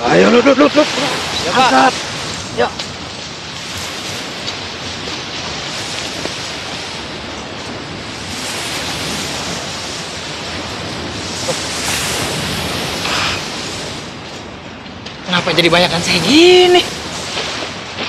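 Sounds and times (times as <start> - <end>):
sea surf washing on shore: 0.0 - 18.0.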